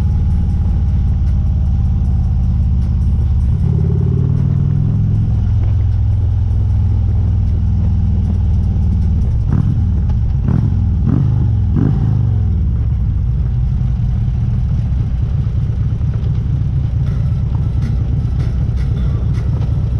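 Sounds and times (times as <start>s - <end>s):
motorcycle engine rumbling: 0.0s - 19.9s.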